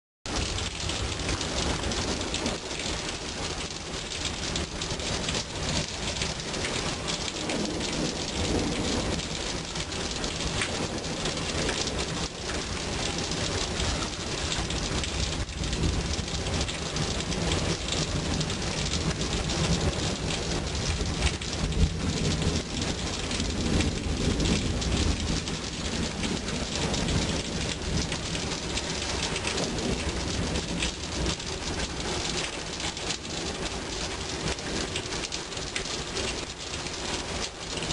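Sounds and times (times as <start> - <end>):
heavy rain falling: 0.2 - 37.9
rolling thunder: 0.3 - 37.9.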